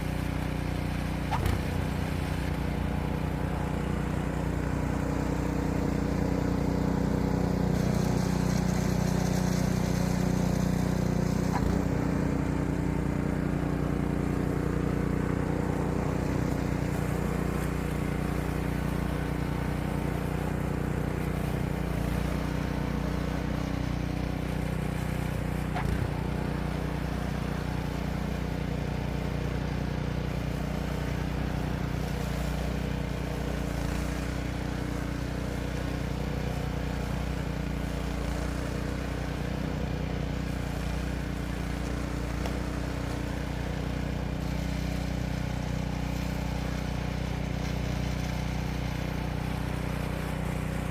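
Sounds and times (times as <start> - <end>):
engine running steadily: 0.0 - 50.9.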